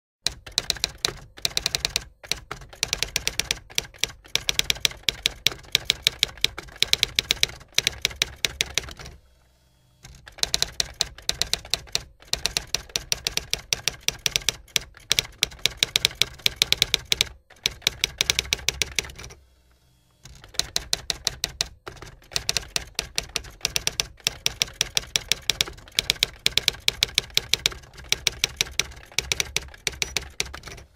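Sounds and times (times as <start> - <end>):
typewriter keys clacking: 0.3 - 9.2, 10.1 - 19.4, 20.3 - 30.9.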